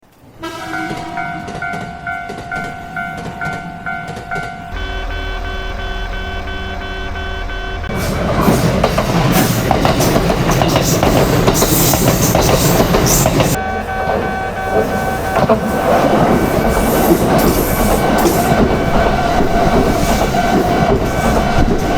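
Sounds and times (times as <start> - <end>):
train passing with clacking wheels: 0.0 - 21.9
level-crossing bell clanging: 0.4 - 7.9, 10.6 - 21.9.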